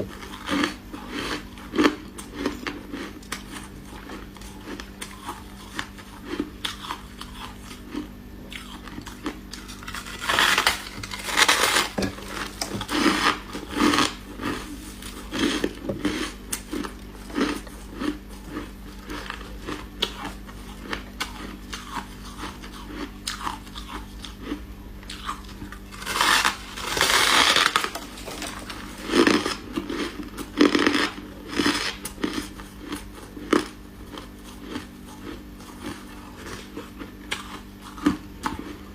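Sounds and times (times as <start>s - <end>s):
crunchy biting of frost: 0.1s - 38.9s.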